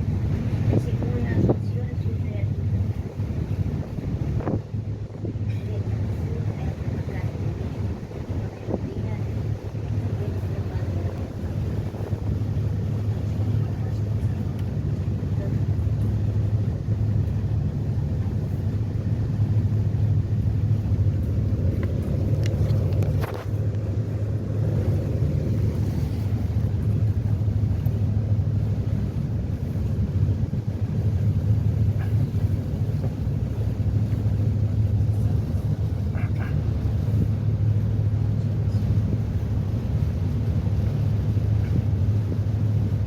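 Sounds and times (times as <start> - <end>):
ferry engines droning: 0.0 - 43.0.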